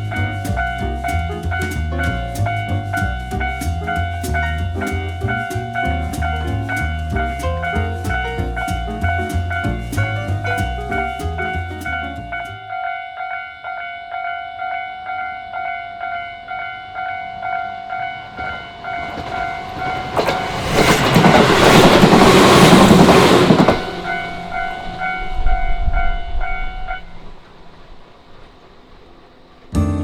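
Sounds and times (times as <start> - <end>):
level crossing bell clanging: 0.0 - 27.3
electric train passing: 0.0 - 30.0.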